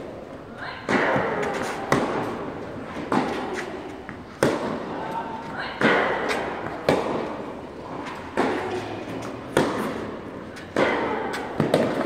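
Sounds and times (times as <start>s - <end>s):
tennis balls struck by rackets: 0.0s - 12.0s.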